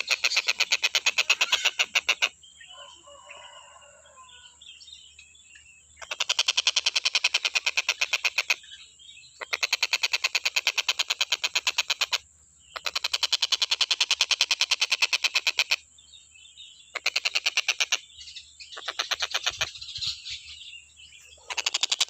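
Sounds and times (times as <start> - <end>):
bird twittering: 0.0 - 22.0.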